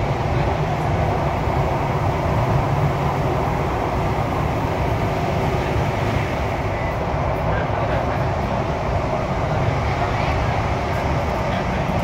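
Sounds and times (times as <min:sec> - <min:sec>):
metro train rumbling in tunnel: 0:00.0 - 0:12.0.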